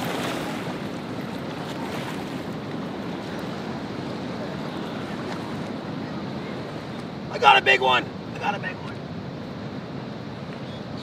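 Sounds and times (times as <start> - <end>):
fast-flowing river rushing: 0.0 - 11.0.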